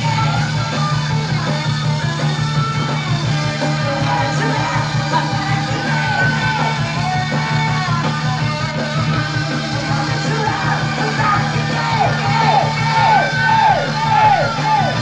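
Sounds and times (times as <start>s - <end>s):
loud hard rock band: 0.0s - 15.0s
singer yelling and singing: 0.0s - 15.0s.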